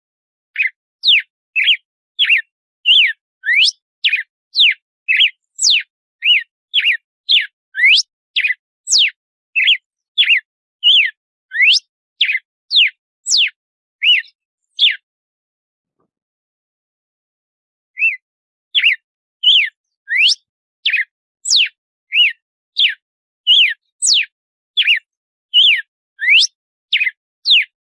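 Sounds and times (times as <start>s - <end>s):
bird whistling song: 0.5s - 15.1s, 18.0s - 27.8s.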